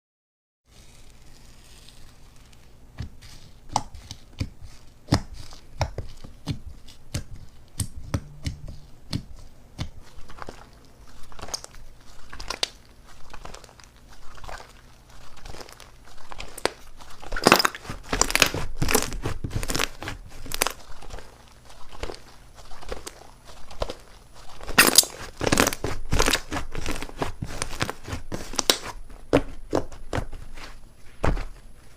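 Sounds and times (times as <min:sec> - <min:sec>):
slime crackling and popping: 0:00.9 - 0:30.4.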